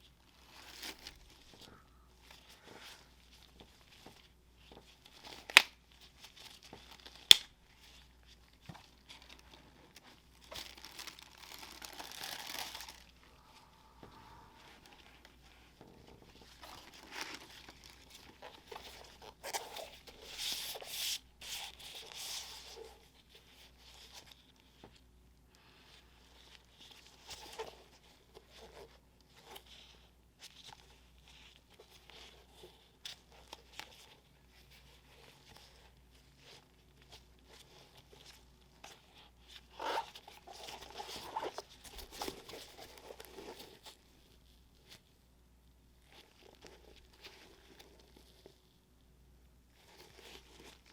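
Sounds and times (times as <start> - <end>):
tissue paper crinkling: 0.2 - 24.8, 25.9 - 45.1, 49.7 - 50.9.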